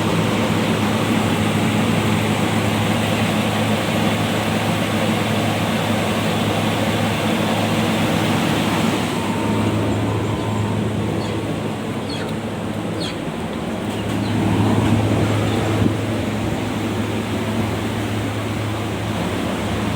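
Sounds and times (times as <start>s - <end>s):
blower fan running: 0.0s - 19.9s.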